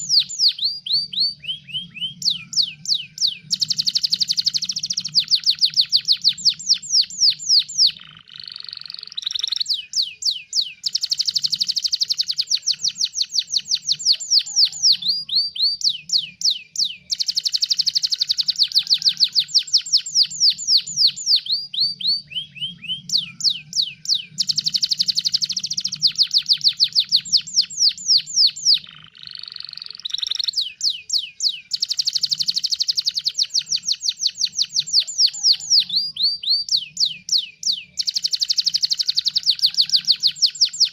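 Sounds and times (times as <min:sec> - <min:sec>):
canary trilling song: 0:00.0 - 0:40.9.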